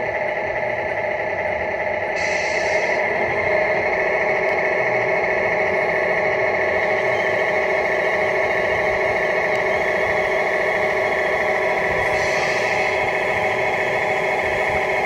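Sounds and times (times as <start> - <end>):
toy truck motor hum and whine: 0.0 - 15.0.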